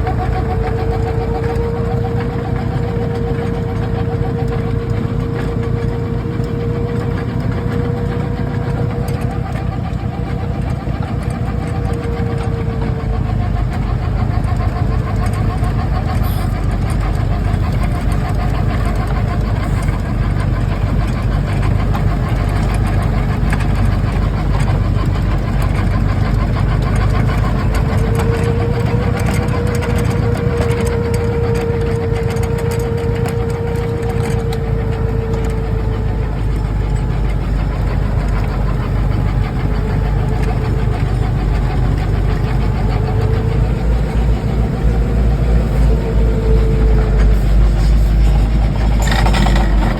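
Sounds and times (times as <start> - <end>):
steady whine: 0.0 - 49.9
tractor diesel engine running: 0.0 - 49.9.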